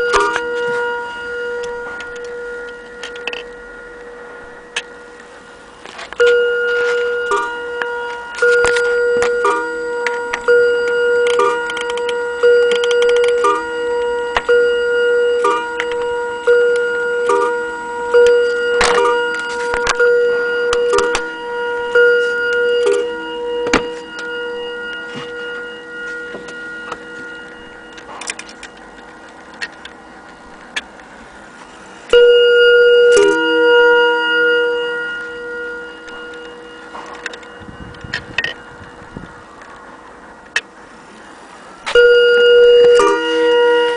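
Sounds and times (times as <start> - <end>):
mantel clock striking: 0.0 - 43.9.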